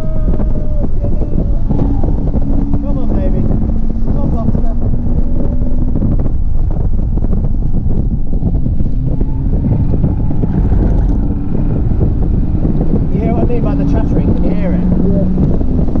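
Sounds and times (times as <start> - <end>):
car engine running: 0.0 - 16.0
wind buffeting microphone: 0.0 - 16.0.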